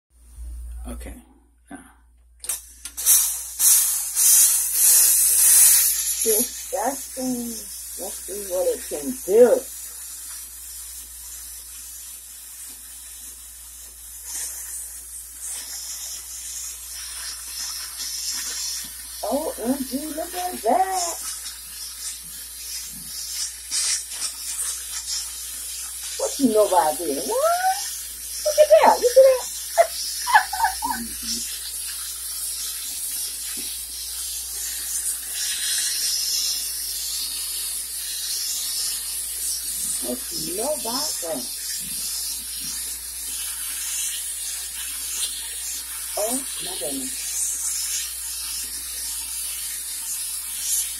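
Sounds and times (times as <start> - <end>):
hot water spitting: 2.4 - 50.9
steam cleaner hissing: 2.4 - 50.9.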